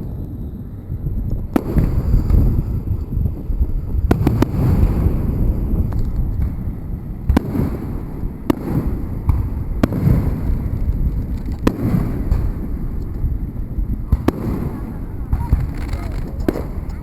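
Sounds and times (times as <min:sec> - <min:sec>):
fireworks cracking: 0:00.0 - 0:17.0
low rumble: 0:00.0 - 0:17.0.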